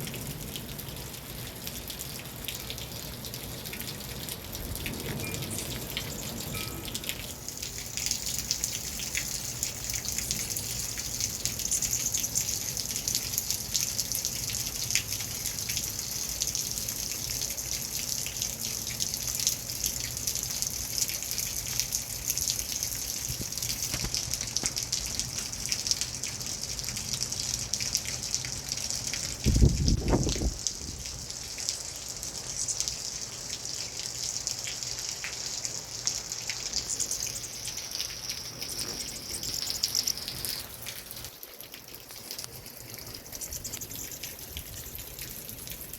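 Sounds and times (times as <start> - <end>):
rain falling and dripping: 0.0 - 45.9.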